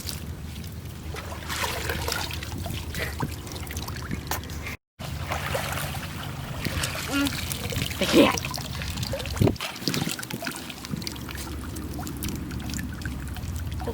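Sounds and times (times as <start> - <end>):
low steady rumble: 0.0 - 9.6, 10.6 - 13.9
water splashing and trickling: 0.0 - 13.9.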